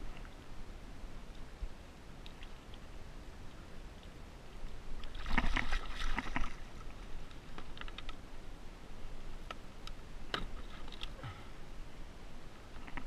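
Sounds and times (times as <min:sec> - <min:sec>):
low rumble of water and wind: 0:00.0 - 0:13.0.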